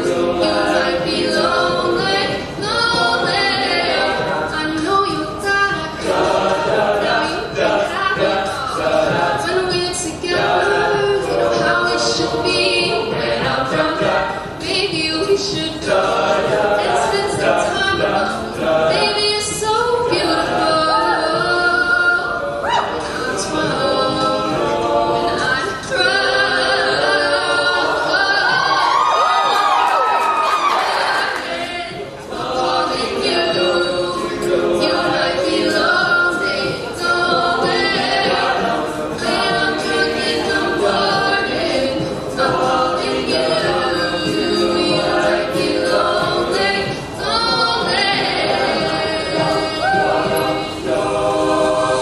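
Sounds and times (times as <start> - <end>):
beatboxed percussion: 0.0 - 52.0
choir singing chords: 0.0 - 52.0
layered backing voices: 0.0 - 52.0.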